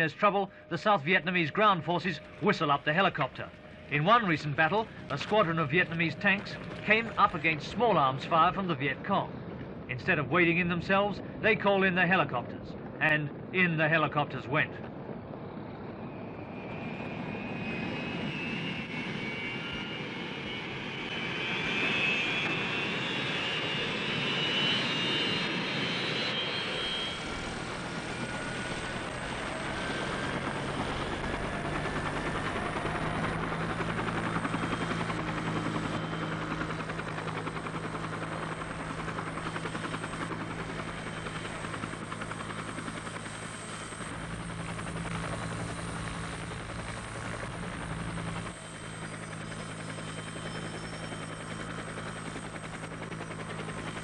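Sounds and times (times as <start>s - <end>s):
helicopter running: 0.0s - 54.0s.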